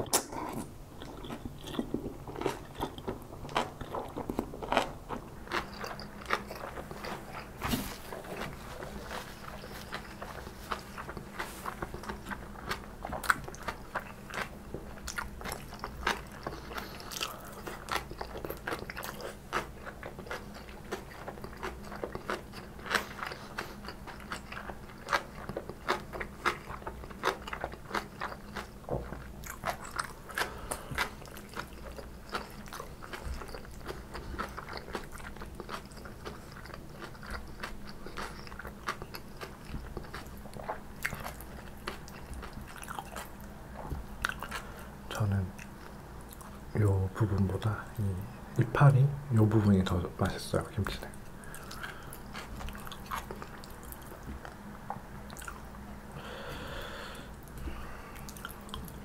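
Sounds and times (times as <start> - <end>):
chewing with wet crunches: 0.4 - 48.6, 50.9 - 56.0, 57.4 - 59.0.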